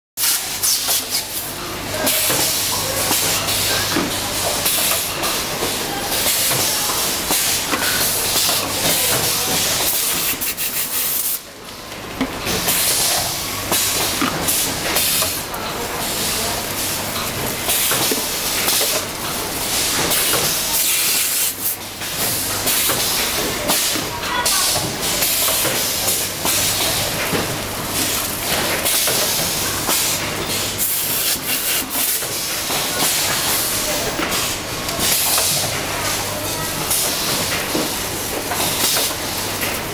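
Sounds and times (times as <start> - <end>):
printing machine hissing: 0.2 - 11.6, 12.4 - 39.9.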